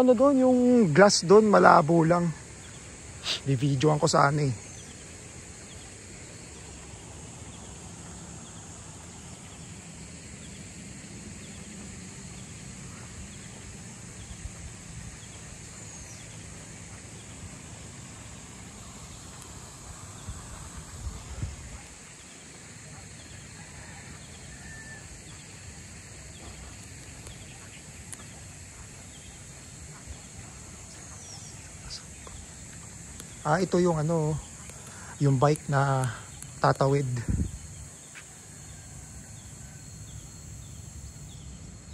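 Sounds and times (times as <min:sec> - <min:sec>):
steady high hiss: 0:00.0 - 0:41.9.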